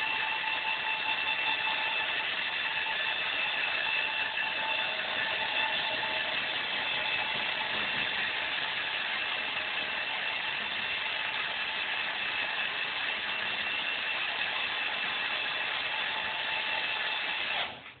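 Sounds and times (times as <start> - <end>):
cordless drill running: 0.0 - 18.0.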